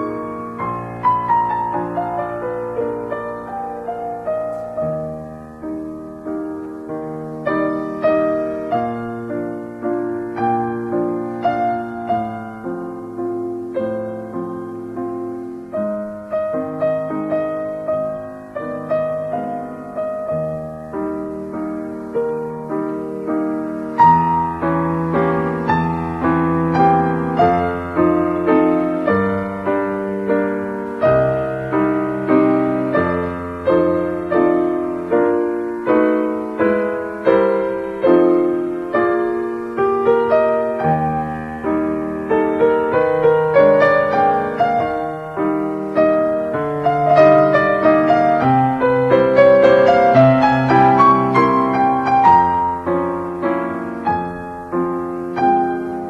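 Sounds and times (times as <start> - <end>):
calm piano music: 0.0 - 56.0.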